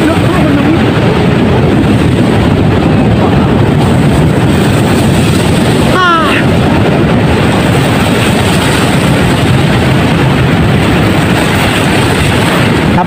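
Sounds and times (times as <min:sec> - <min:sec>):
ocean waves washing ashore: 0:00.0 - 0:13.0
wind noise on microphone: 0:00.0 - 0:13.0.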